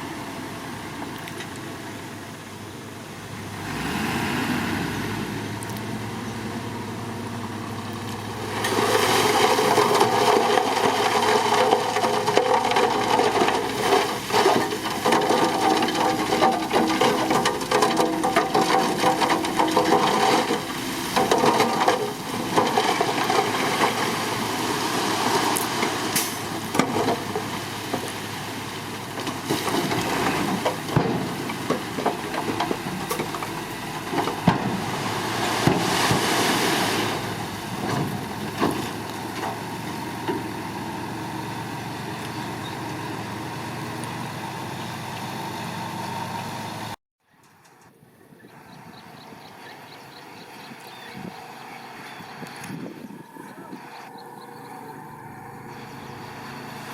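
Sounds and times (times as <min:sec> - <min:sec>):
bulldozer diesel engine under load: 0:00.0 - 0:47.0, 0:48.2 - 0:56.9.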